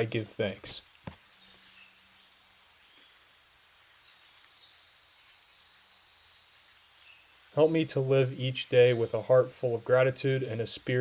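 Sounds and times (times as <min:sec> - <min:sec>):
high-pitched insect trilling: 0:00.0 - 0:11.0.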